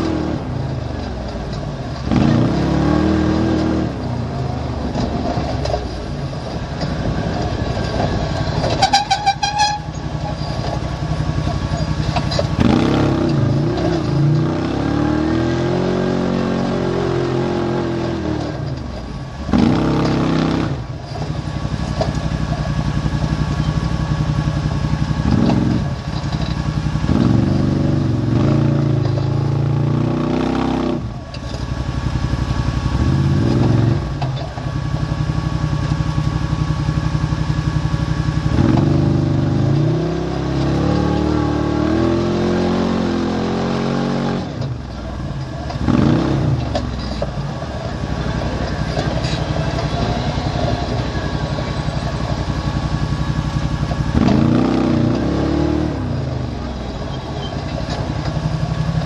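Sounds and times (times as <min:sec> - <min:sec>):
utility vehicle engine revving: 0:00.0 - 0:59.0.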